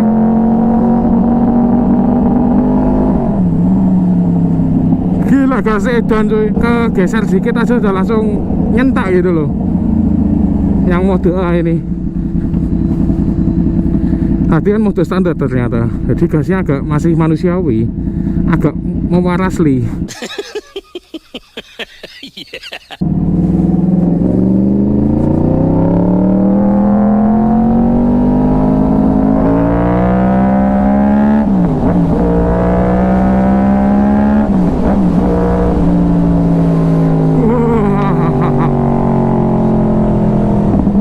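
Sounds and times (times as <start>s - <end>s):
motorcycle engine accelerating: 0.0s - 20.1s, 23.0s - 41.0s.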